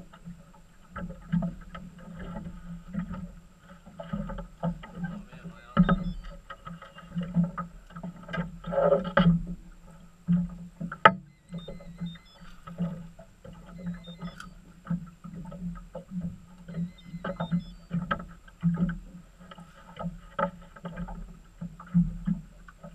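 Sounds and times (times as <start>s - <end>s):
waves slapping boat hull: 0.0s - 22.9s.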